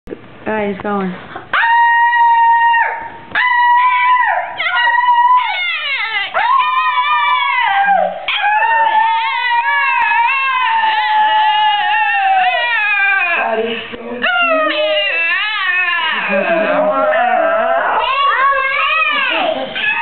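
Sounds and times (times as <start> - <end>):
small dog howling: 1.5 - 20.0.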